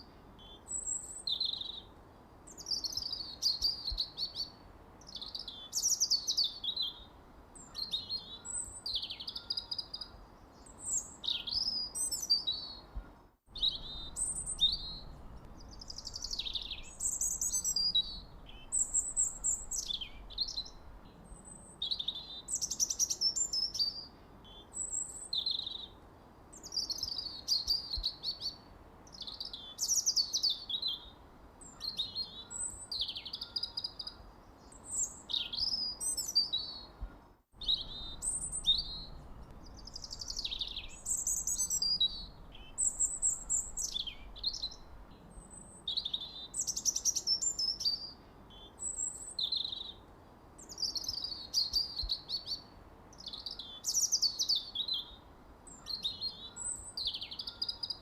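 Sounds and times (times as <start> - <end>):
faint background hiss: 0.0 - 58.0
songbirds singing: 0.0 - 58.0.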